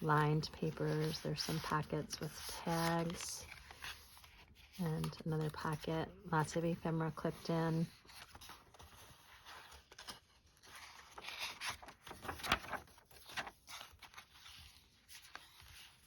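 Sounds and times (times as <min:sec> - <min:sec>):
paper pages rustling: 0:00.0 - 0:05.9, 0:06.5 - 0:16.0.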